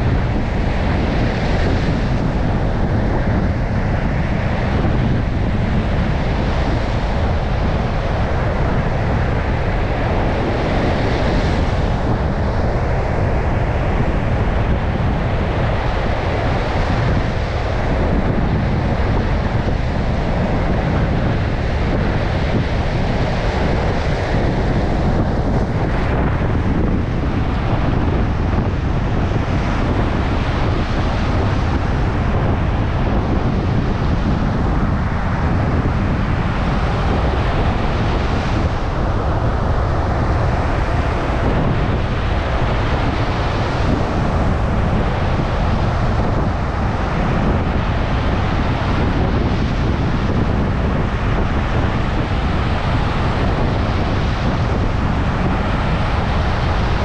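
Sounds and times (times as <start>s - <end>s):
surf breaking on a beach: 0.0s - 57.0s
wind buffeting microphone: 0.0s - 57.0s.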